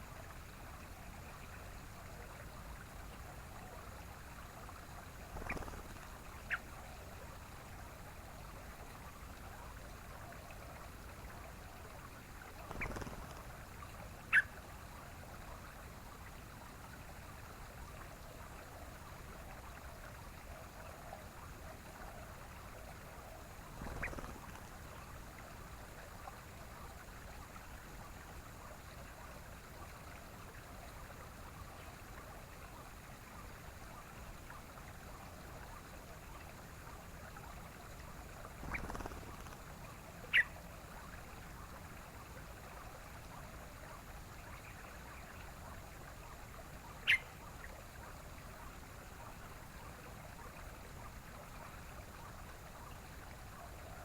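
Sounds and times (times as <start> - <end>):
running water hiss: 0.0 - 54.0.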